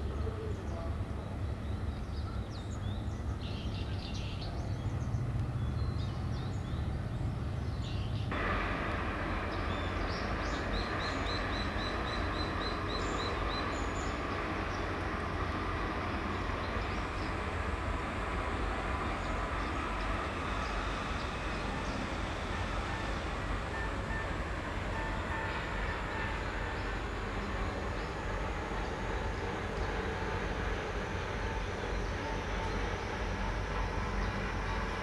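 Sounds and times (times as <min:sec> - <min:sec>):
distant low rumble: 0:04.8 - 0:35.0.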